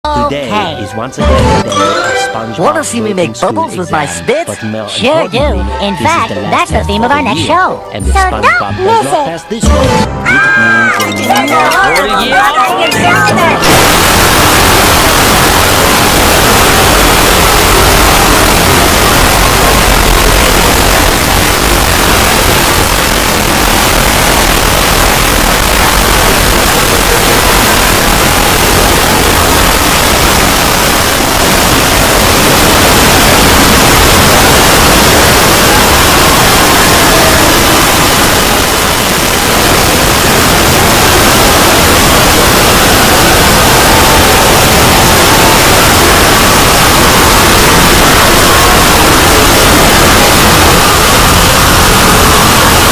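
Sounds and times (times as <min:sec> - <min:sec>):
distorted static-like noise: 0:00.0 - 0:10.6, 0:11.2 - 0:52.9.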